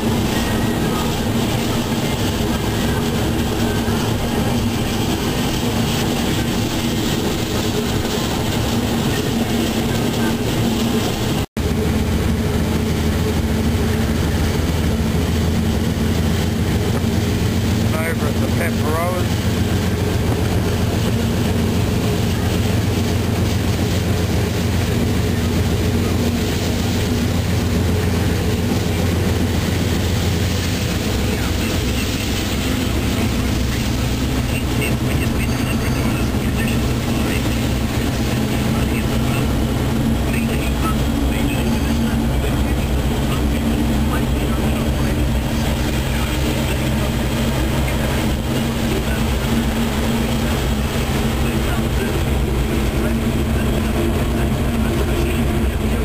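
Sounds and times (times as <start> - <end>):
locomotive engine drone: 0.0 - 56.0
wheels rushing on rail: 0.0 - 56.0.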